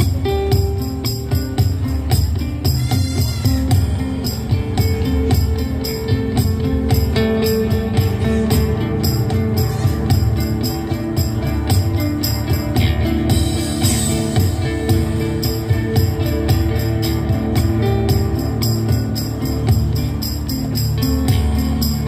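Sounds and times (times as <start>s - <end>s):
acoustic band music: 0.0s - 22.0s
high percussion strokes: 0.0s - 22.0s.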